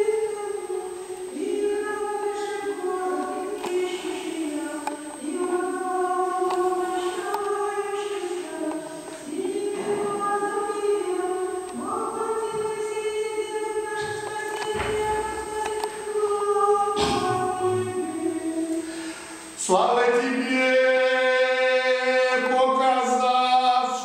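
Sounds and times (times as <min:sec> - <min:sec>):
choir singing unaccompanied chant: 0:00.0 - 0:24.0.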